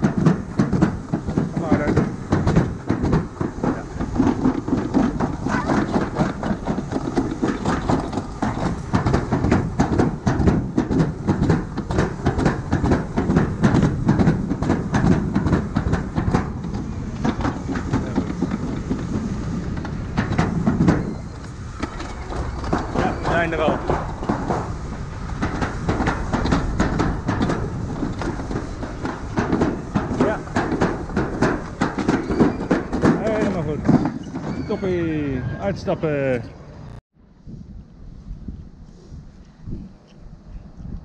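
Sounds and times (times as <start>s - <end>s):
ride cars rattling along track: 0.0s - 37.0s.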